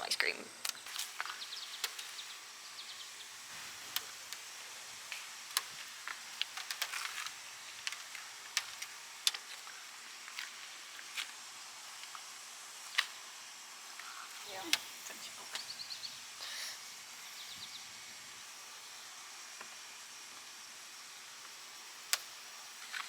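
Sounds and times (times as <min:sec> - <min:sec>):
insect hiss and whine: 0:00.0 - 0:23.0.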